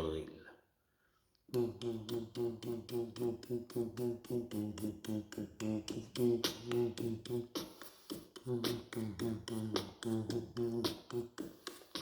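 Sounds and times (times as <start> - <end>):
man beatboxing: 1.5 - 12.0.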